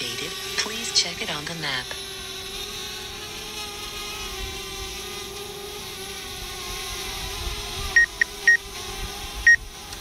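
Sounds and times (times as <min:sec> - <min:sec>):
drone propellers buzzing: 0:00.0 - 0:10.0.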